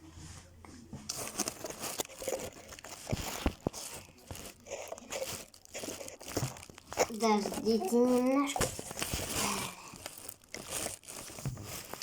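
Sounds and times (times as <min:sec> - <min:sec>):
rustling and crinkling: 0:00.2 - 0:12.0.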